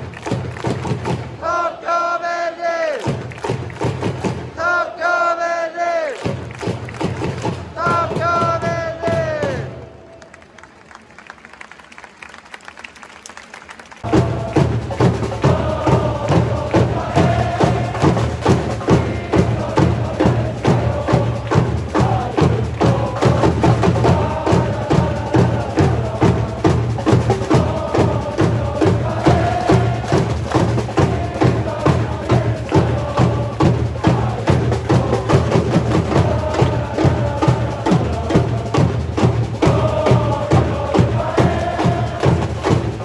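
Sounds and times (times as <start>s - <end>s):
drums beating: 0.0s - 1.8s, 2.9s - 4.8s, 6.2s - 9.9s, 14.0s - 43.0s
crowd singing a chant: 0.9s - 3.4s, 4.1s - 10.0s, 14.0s - 43.0s.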